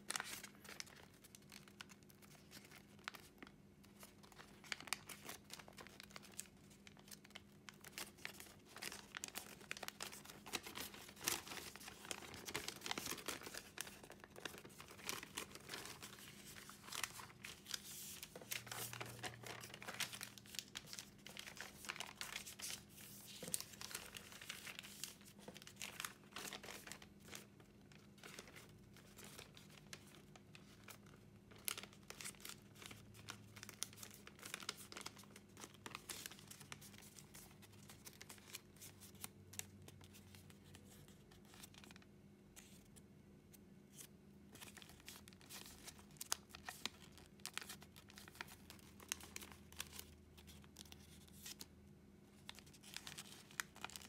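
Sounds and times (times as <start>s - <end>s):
paper being folded and creased: 0.0s - 42.0s, 43.9s - 51.7s, 52.4s - 54.0s.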